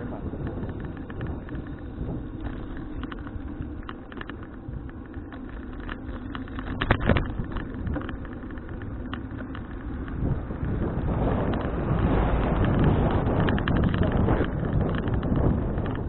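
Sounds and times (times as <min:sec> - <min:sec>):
road and wind rumble: 0:00.0 - 0:16.0
bicycle rattling clicks: 0:00.1 - 0:16.0.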